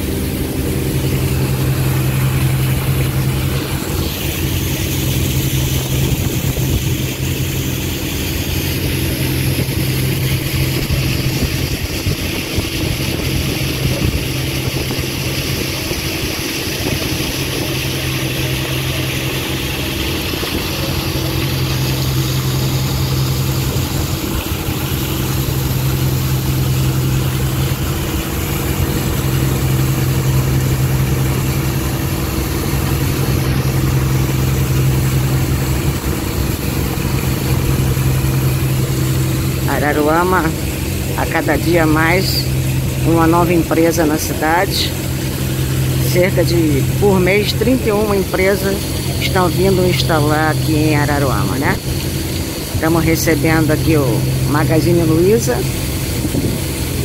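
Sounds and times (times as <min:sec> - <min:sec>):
ferry engine humming: 0:00.0 - 0:57.0
water rushing along hull: 0:00.0 - 0:57.0.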